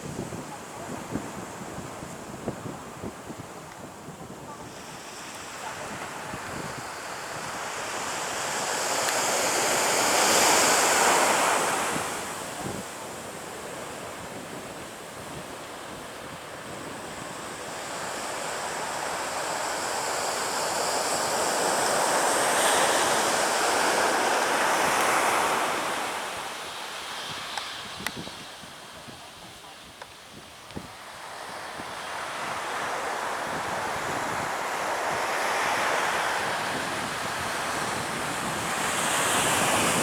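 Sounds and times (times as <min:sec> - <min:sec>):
waves washing in: 0:00.0 - 0:29.3, 0:30.2 - 0:40.0
wind noise on microphone: 0:00.0 - 0:40.0.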